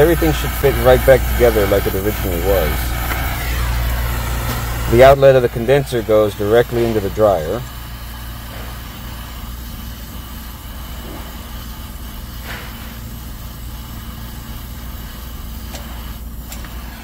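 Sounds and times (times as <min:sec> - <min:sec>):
low hum: 0:00.0 - 0:16.1
torch flame hissing: 0:00.0 - 0:17.0.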